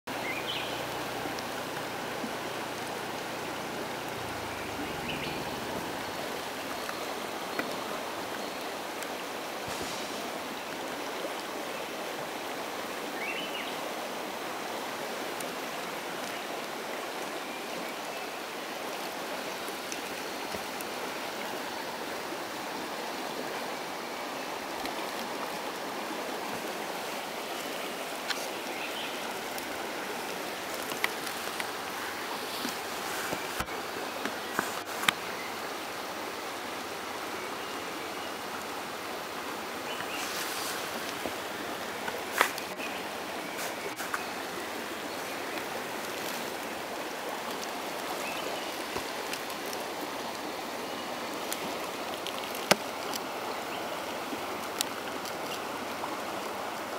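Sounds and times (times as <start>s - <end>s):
stream water rushing: 0.0s - 56.9s.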